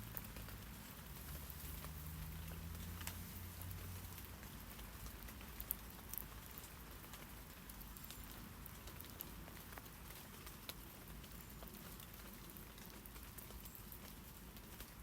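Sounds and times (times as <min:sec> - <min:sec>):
rain on leaves: 0:00.0 - 0:15.0.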